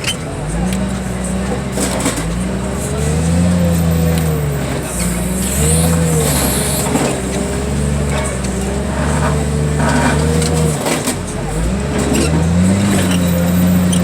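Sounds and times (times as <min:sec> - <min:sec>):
heavy equipment engine working: 0:00.0 - 0:14.0.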